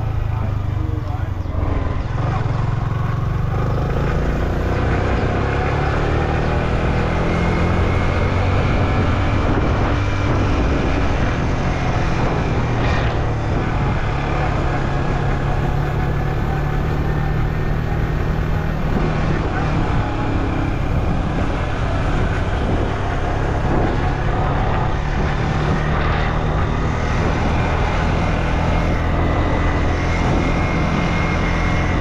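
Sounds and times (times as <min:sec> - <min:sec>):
motorcycle engine running: 0:00.0 - 0:32.0
wind and road noise: 0:00.0 - 0:32.0.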